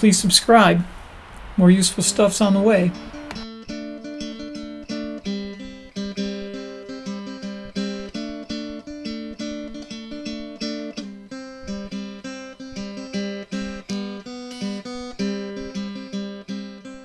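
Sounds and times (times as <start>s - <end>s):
acoustic guitar playing: 0.2s - 17.0s.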